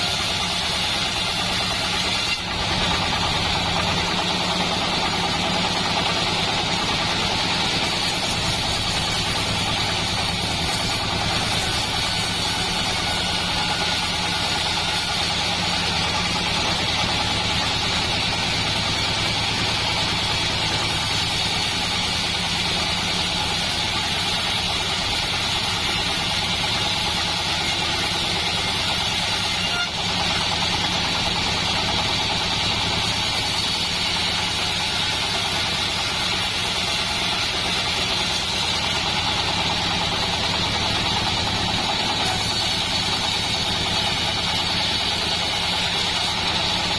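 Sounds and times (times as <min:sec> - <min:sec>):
engine drone: 0:00.0 - 0:46.9.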